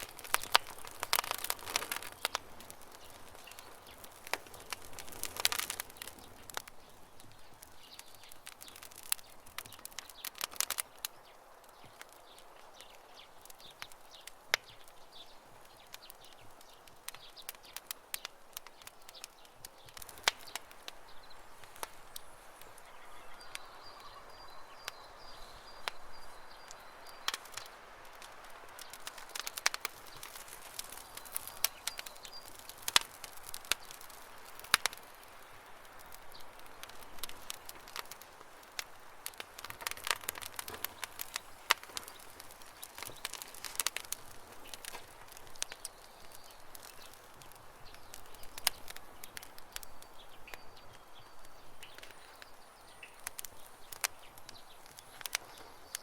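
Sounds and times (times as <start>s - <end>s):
small bird chirping: 0.0s - 28.2s, 28.8s - 38.2s, 39.3s - 56.0s
campfire crackling and popping: 0.0s - 56.0s.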